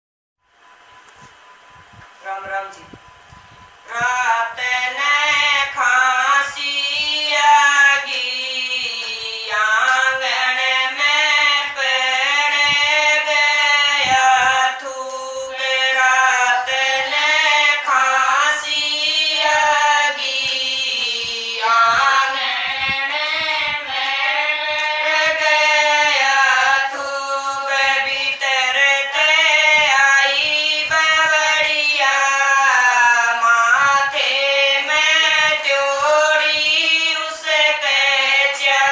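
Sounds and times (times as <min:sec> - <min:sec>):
women singing together: 0:03.9 - 0:38.9.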